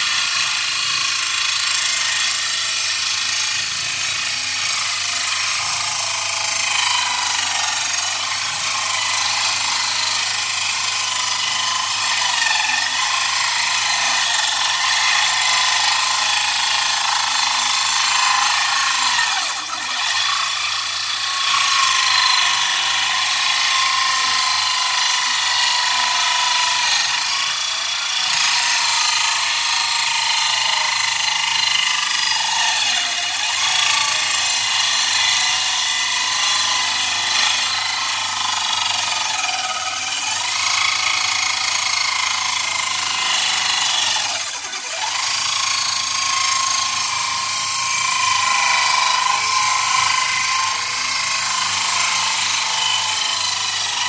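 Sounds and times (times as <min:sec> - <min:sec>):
saw ripping wood with whine: 0:00.0 - 0:54.0.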